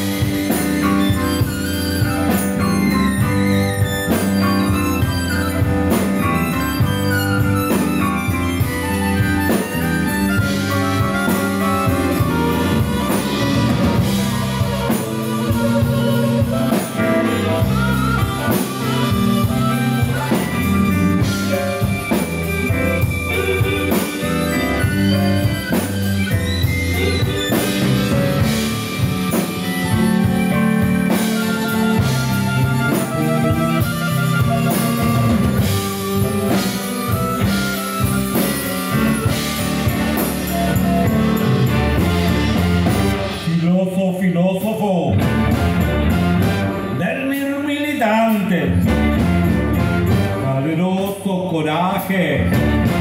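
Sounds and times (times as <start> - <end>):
harmonica: 0.0 - 43.8, 45.2 - 51.0, 52.1 - 53.0
electric guitar: 0.0 - 43.9, 44.9 - 51.0, 51.8 - 53.0
drum kit: 0.0 - 53.0.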